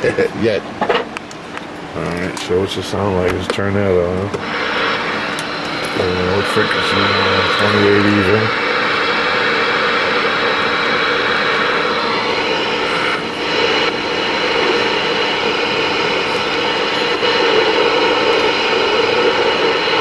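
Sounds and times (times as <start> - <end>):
radio static hiss: 2.0 - 20.0
faint steady tones: 2.8 - 20.0.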